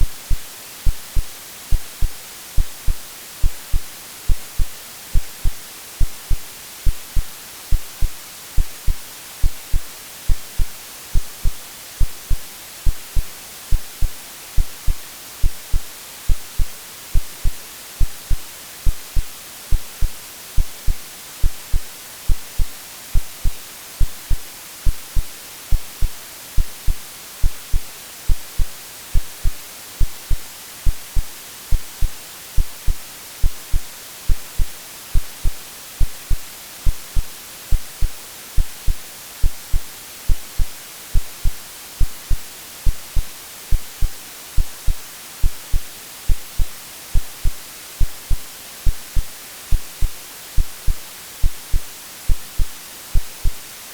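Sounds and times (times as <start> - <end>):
heartbeat double thumps: 0.0 - 53.6
white noise hiss: 0.0 - 53.9.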